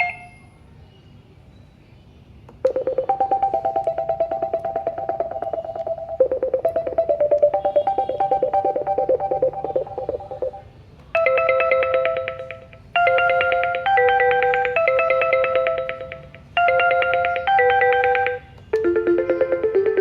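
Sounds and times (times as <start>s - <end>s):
phone ringtone electronic trill: 2.6s - 10.6s, 11.2s - 20.0s.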